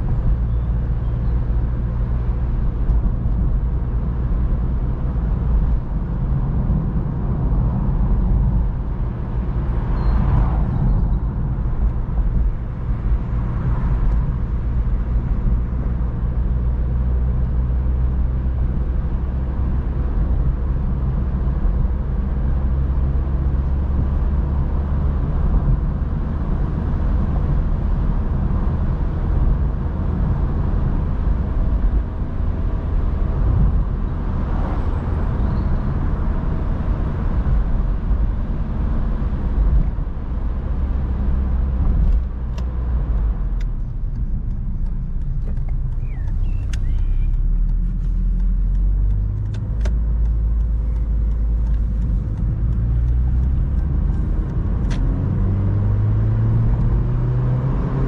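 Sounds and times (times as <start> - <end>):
car engine cruising: 0.0 - 58.0
tyre and road noise: 0.0 - 58.0.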